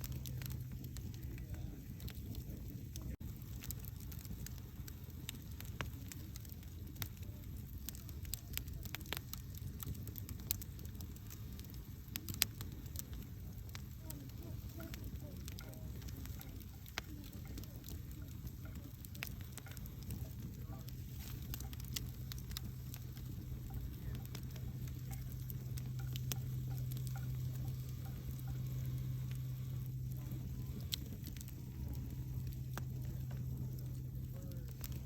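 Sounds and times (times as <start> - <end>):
fire crackling and popping: 0.0 - 35.0
rumble of flames: 0.0 - 35.0.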